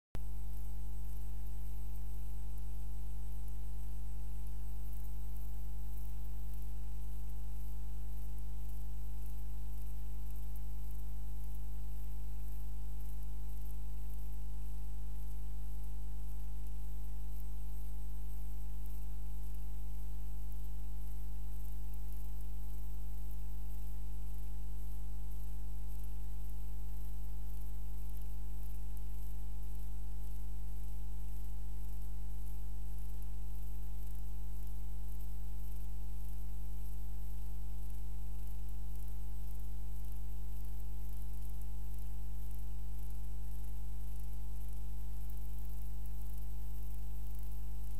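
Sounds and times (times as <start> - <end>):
constant hiss: 0.2 - 47.9
electrical mains hum: 0.2 - 47.9.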